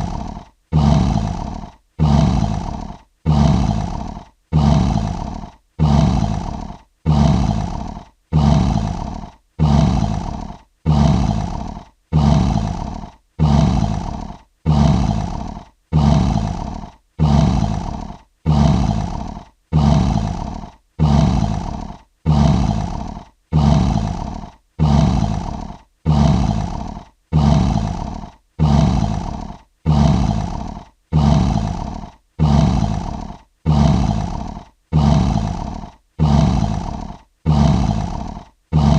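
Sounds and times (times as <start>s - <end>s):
lion roar: 0.0s - 38.9s.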